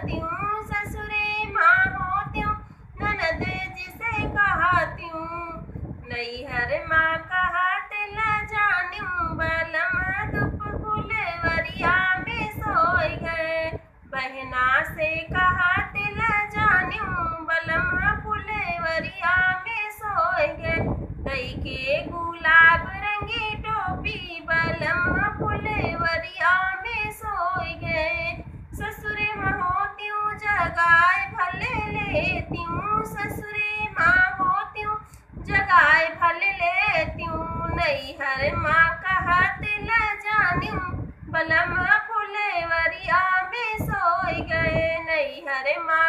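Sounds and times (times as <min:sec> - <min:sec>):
woman singing folk song: 0:00.0 - 0:46.0.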